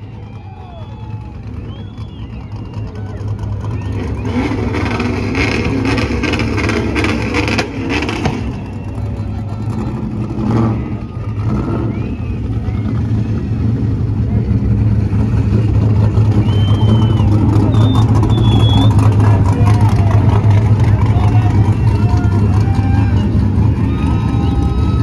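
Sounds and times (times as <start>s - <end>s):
crowd voices: 0.0s - 25.0s
truck engine revving hard: 0.6s - 25.0s.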